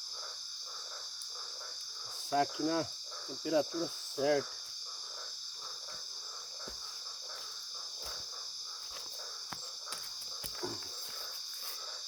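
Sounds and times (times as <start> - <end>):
crickets shrilling: 0.0 - 12.0.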